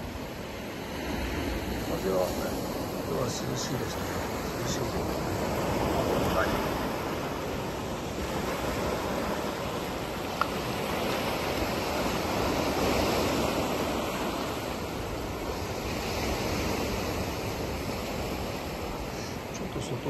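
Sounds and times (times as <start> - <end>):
waves breaking on rocks: 0.0 - 20.0.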